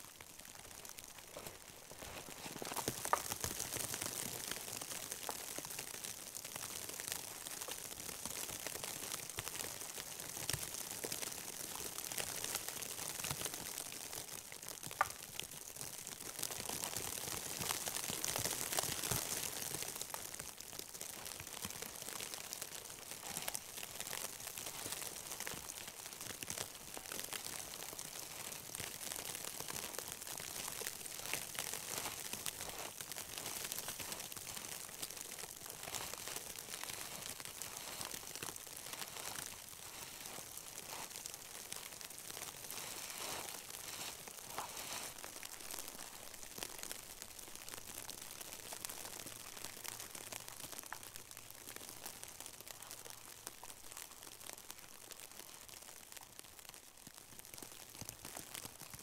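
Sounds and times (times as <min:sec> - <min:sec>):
rustling and crunching over snow: 0:00.0 - 0:47.4.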